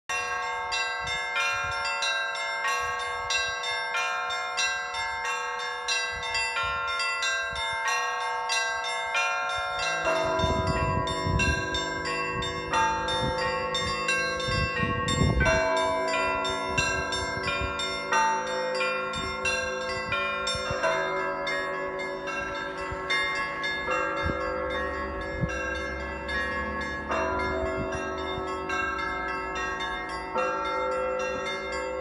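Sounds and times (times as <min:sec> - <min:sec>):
deep bells ringing: 0:00.1 - 0:32.0
small treble bells ringing: 0:00.1 - 0:32.0.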